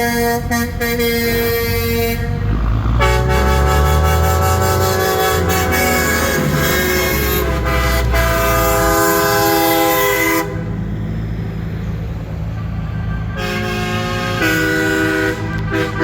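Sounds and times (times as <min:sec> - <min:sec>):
truck air horn blasting: 0:00.0 - 0:10.8, 0:12.5 - 0:16.0
low engine rumble: 0:00.0 - 0:16.0.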